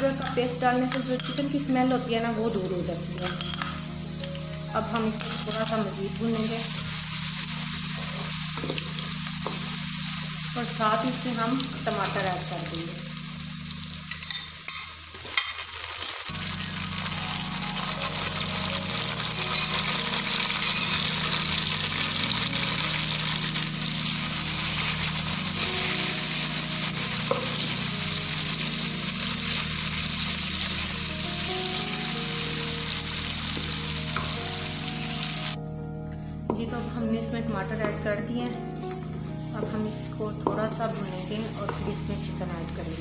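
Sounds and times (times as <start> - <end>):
tomatoes sizzling in hot oil: 0.0 - 35.6, 38.8 - 43.0.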